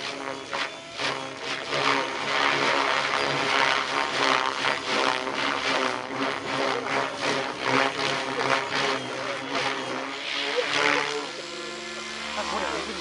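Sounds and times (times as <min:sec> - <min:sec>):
helicopter rotor whirring: 0:00.0 - 0:13.0
motor hum: 0:00.0 - 0:13.0.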